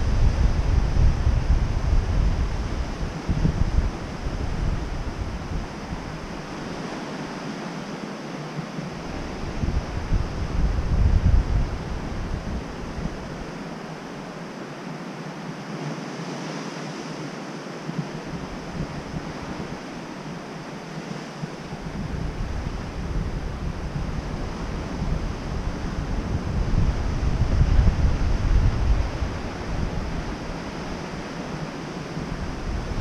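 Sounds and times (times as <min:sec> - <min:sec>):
surf washing onto beach: 0:00.0 - 0:33.0
wind on microphone: 0:00.0 - 0:33.0.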